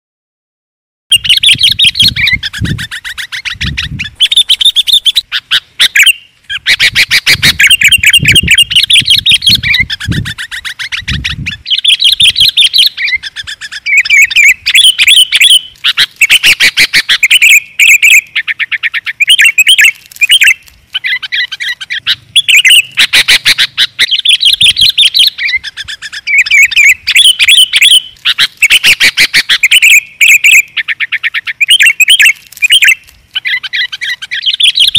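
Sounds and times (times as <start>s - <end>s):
bird chirping rapidly: 1.1s - 34.9s.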